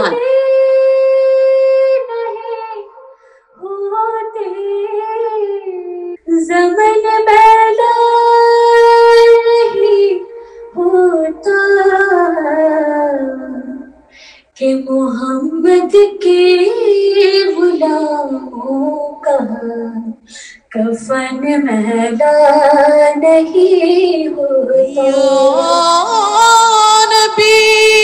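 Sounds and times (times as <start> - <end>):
woman reciting melodically: 0.0 - 28.0.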